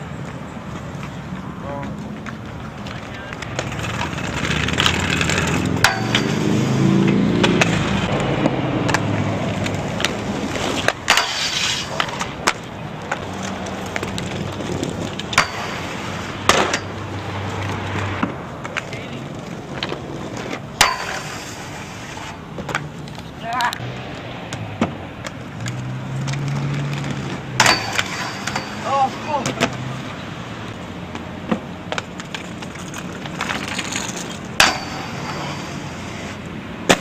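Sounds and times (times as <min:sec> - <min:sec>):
skates clacking: 0:00.0 - 0:17.0, 0:17.6 - 0:37.0
skate wheels rolling on pavement: 0:00.0 - 0:37.0.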